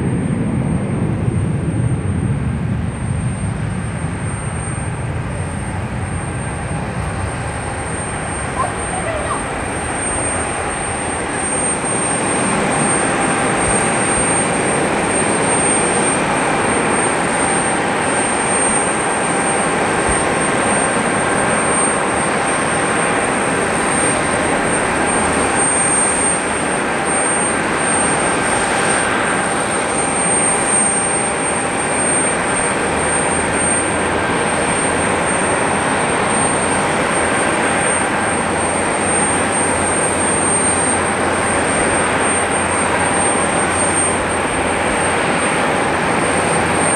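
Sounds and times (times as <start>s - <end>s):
jet engines landing: 0.0s - 46.9s.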